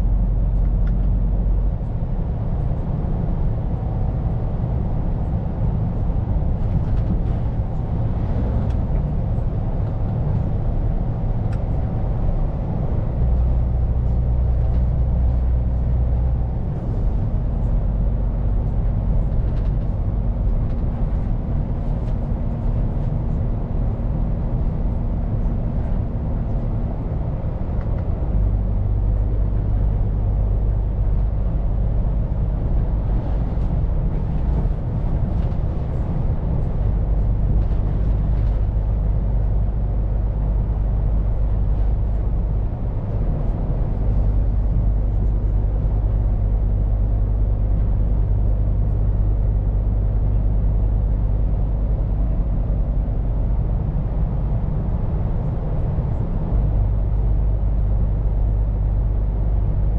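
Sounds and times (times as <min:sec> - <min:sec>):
truck diesel engine rumble: 0:00.0 - 0:59.9.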